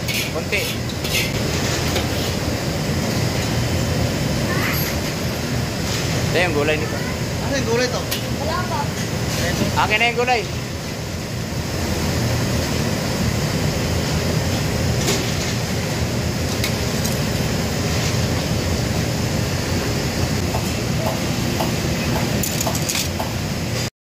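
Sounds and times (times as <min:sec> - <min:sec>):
low rumble of ventilation: 0:00.0 - 0:23.9.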